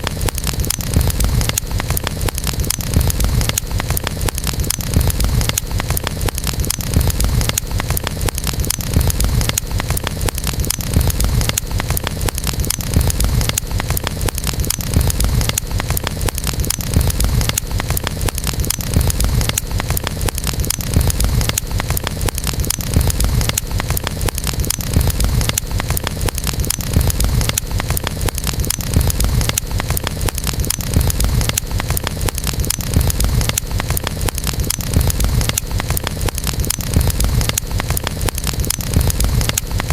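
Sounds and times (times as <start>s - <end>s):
campfire crackling and popping: 0.0s - 39.9s
low rumble of burning: 0.0s - 39.9s.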